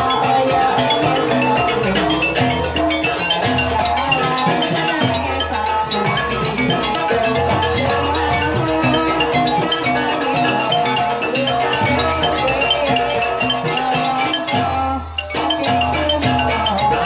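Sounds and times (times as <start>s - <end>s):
percussion: 0.0s - 17.0s.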